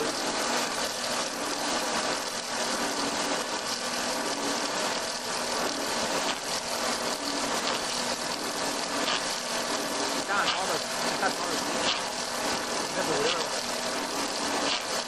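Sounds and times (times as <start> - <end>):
low motor hum: 0.0 - 15.0
wood lathe shaving log: 0.0 - 15.0.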